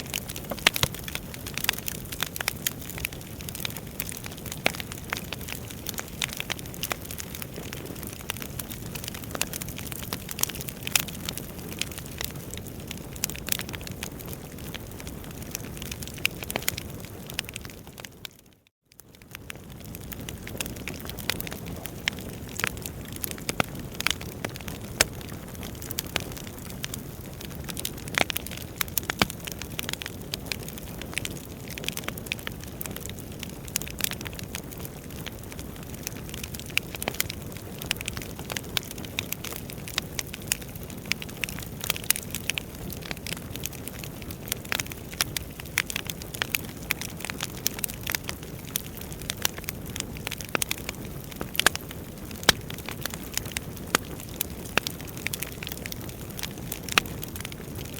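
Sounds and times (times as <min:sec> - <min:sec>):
logs crackling and popping: 0:00.0 - 0:57.9.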